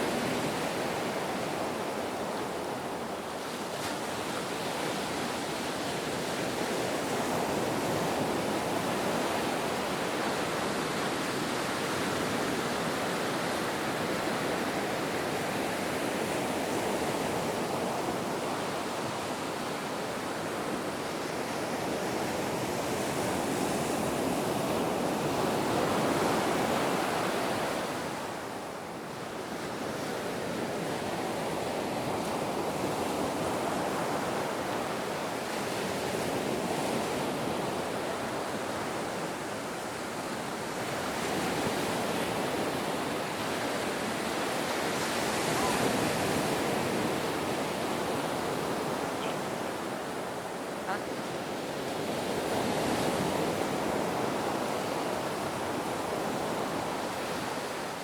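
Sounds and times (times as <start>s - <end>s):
ocean surf: 0.0s - 58.0s.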